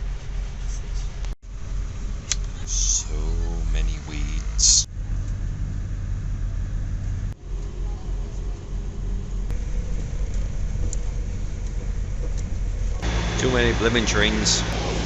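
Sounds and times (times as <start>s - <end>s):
passing traffic rumble: 0.0s - 15.0s.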